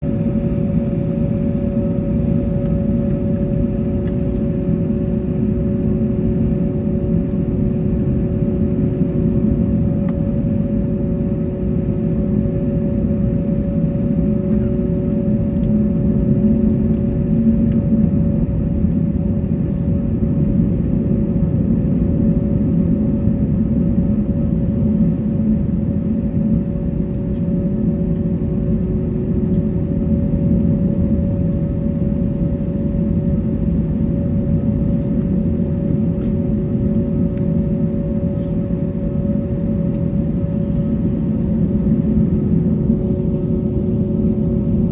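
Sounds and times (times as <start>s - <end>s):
airliner engines rumbling in cabin: 0.0s - 44.9s.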